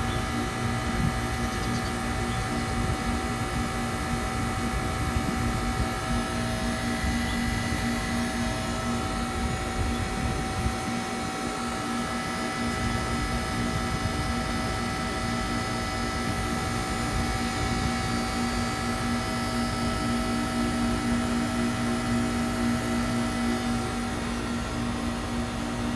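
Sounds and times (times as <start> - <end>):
heat pump humming: 0.0 - 25.9.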